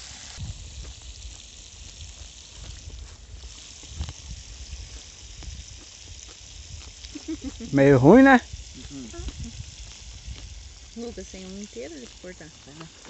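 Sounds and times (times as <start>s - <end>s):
fire crackles: 0.0s - 13.0s
fish sizzling in oil: 0.0s - 13.0s
wind rumble on microphone: 0.4s - 11.6s.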